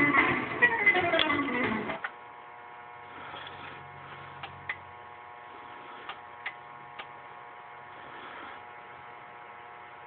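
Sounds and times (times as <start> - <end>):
mains hum and buzz: 0.0 - 10.0.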